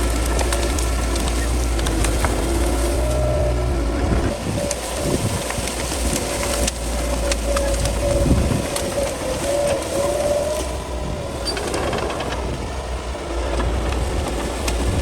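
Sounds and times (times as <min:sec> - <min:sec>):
bulldozer diesel engine rumble: 0:00.0 - 0:15.0
tracks and brush cracking: 0:00.0 - 0:15.0.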